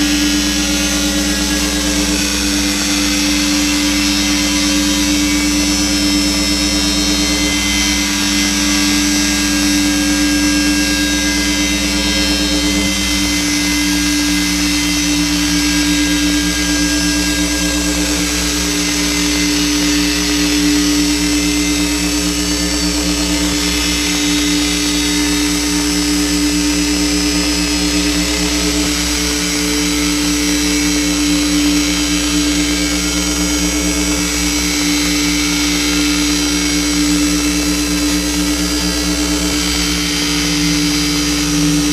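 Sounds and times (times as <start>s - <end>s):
fluttering low tone: 0.0s - 41.9s
synth drone low tone: 0.0s - 41.9s.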